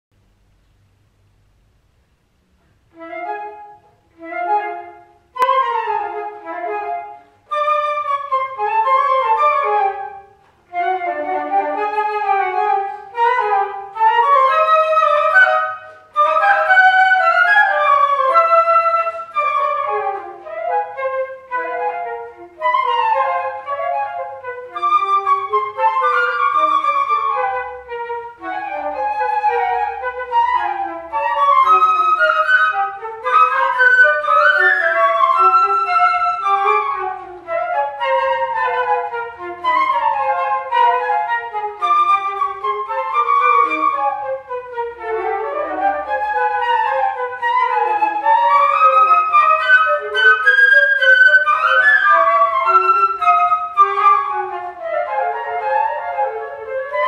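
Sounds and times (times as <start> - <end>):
flute duet: 2.6 - 57.0.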